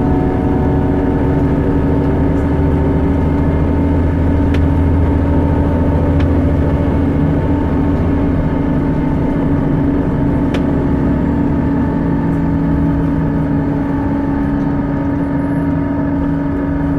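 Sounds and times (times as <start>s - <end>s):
bus engine rumble: 0.0s - 16.9s
whining hum: 0.0s - 16.9s.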